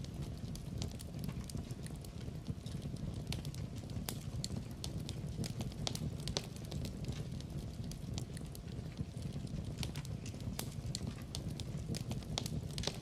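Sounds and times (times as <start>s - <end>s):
logs crackling and popping: 0.0s - 13.0s
low rumble of flame: 0.0s - 13.0s.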